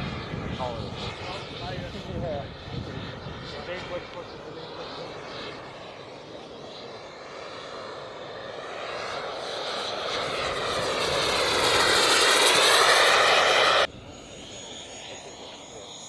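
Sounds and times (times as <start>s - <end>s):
model airplane engine whining: 0.0s - 16.0s.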